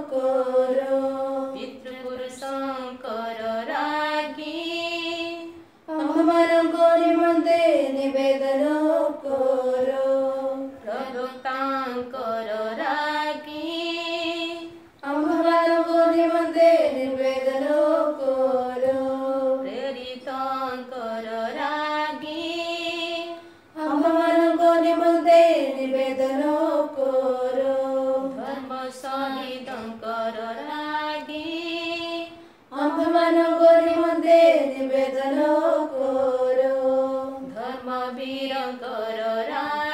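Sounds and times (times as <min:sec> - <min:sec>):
voices chanting a litany: 0:00.0 - 0:39.9.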